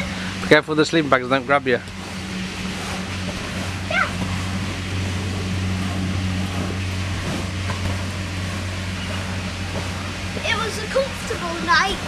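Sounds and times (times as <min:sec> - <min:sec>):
electric air blower humming: 0:00.0 - 0:12.0.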